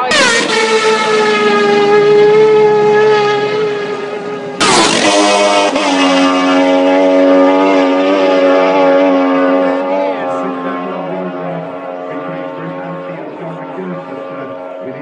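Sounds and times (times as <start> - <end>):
motorcycle bursting past: 0.0 - 14.8
racing motorcycle engine high note: 0.0 - 15.0.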